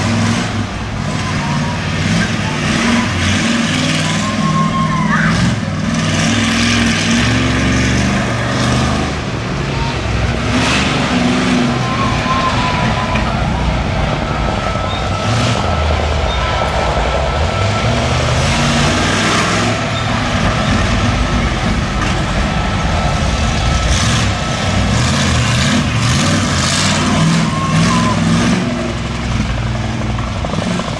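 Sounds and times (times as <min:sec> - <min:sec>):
truck engine revving: 0:00.0 - 0:30.9.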